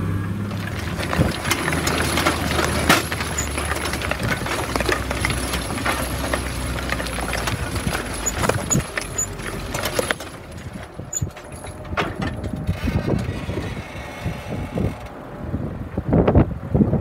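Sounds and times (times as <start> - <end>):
tractor diesel engine running: 0.0 - 16.7
cultivator tines clattering: 0.4 - 15.2.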